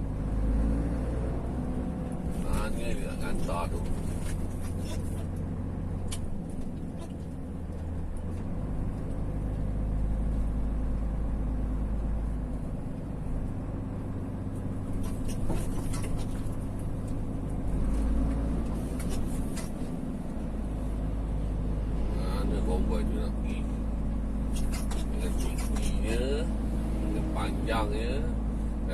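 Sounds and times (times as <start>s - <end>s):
vehicle engine drone in cabin: 0.0s - 28.9s.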